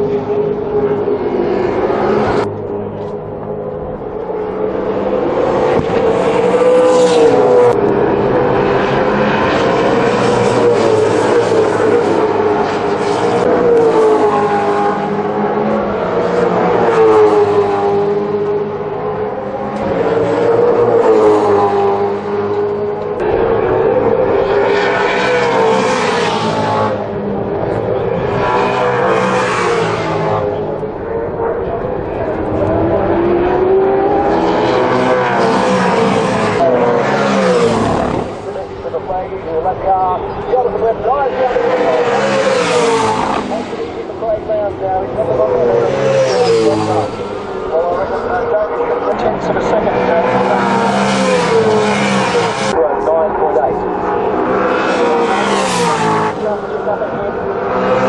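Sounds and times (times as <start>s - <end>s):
race car engines at speed: 0.0s - 58.0s.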